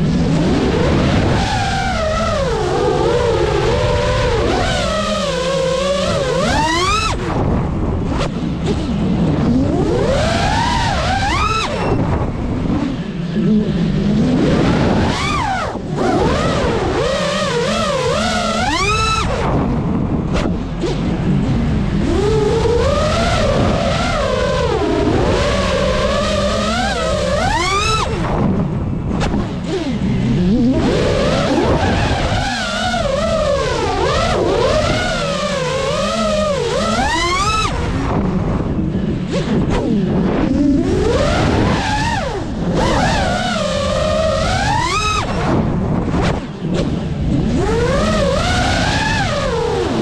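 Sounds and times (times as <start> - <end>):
quadcopter motors whining: 0.0 - 50.0.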